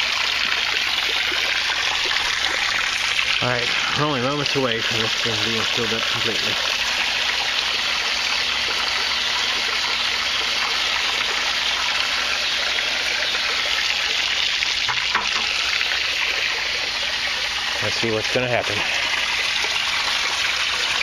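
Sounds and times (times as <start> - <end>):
water pouring into tank: 0.0 - 21.0
water splashing into bucket: 0.0 - 21.0.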